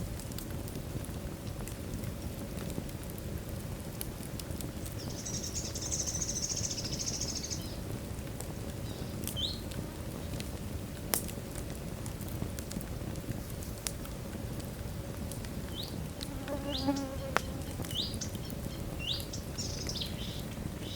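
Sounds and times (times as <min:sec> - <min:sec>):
fire crackles and pops: 0:00.0 - 0:20.9
fire rumbling: 0:00.0 - 0:20.9.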